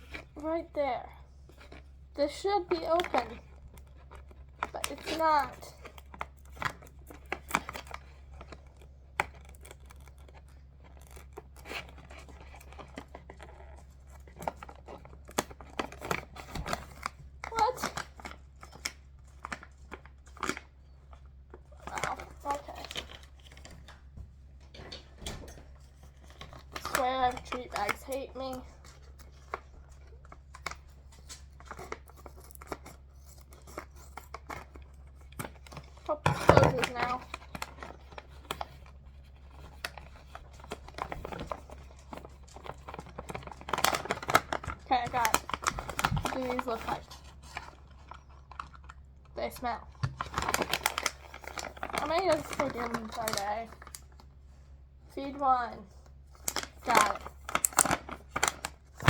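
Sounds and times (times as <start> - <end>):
scissors snipping plastic: 0.0 - 24.1, 24.7 - 54.2, 56.3 - 59.0
plastic packaging crinkling and tearing: 0.0 - 59.0.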